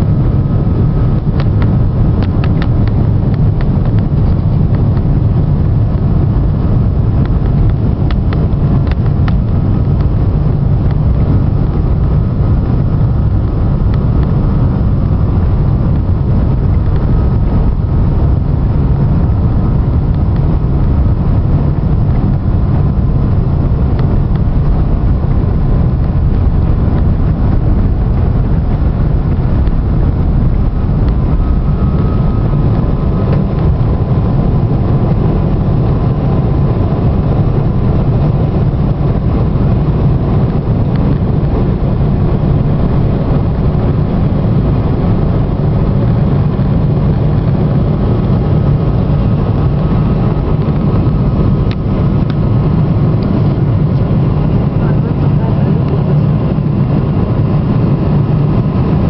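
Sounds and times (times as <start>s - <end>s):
faint steady engine whine: 0.0s - 59.0s
jet engines roaring at takeoff: 0.0s - 59.0s.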